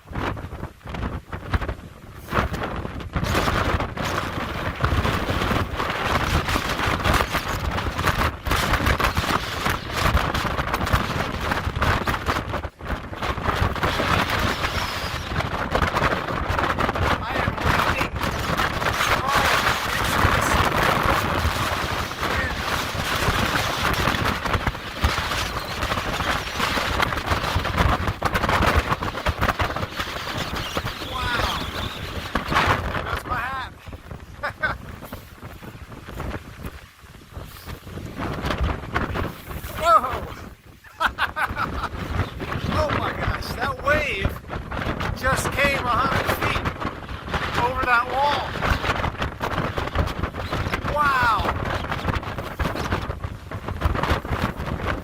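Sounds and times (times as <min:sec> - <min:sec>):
wind gusts buffeting microphone: 0:00.0 - 0:55.0.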